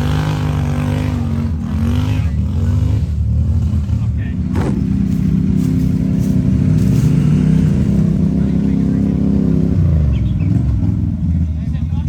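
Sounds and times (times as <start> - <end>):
vehicle engine under throttle: 0.0 - 12.0.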